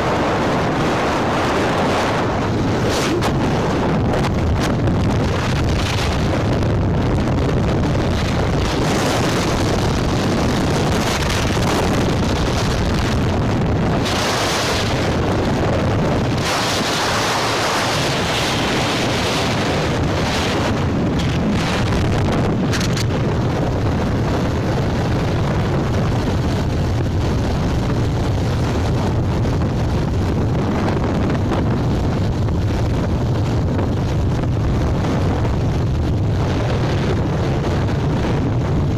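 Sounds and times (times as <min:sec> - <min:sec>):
motorcycle engine and road noise: 0:00.0 - 0:38.9
wind buffeting microphone: 0:00.0 - 0:38.9.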